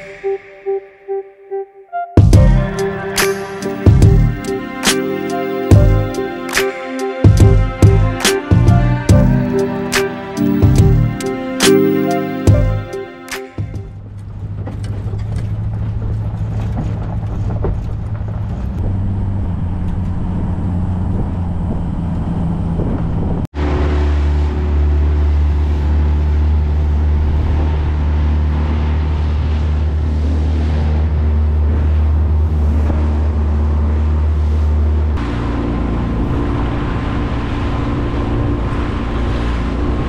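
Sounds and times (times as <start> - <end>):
road and wind noise: 2.4 - 40.0.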